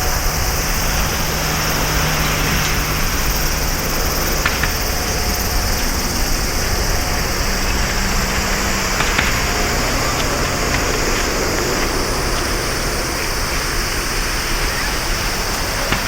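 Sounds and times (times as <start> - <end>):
faint crackles: 0.0 - 16.0
jet engines at takeoff power: 0.0 - 16.0.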